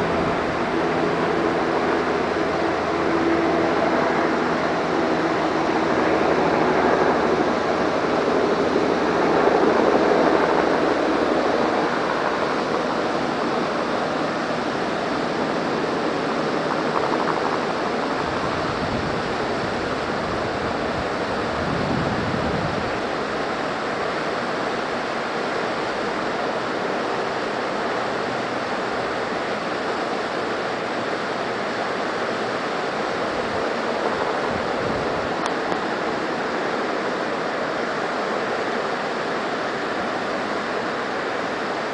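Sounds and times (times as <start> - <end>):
helicopter rotor rushing: 0.0 - 41.9.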